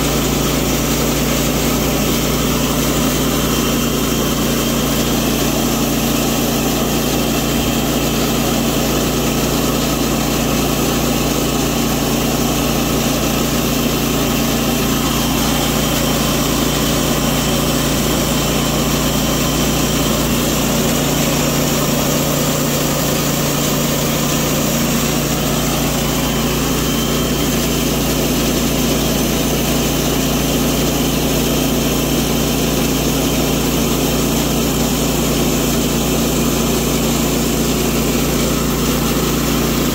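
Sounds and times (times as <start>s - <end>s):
band blade sawing log: 0.0s - 39.9s
gas engine running: 0.0s - 39.9s.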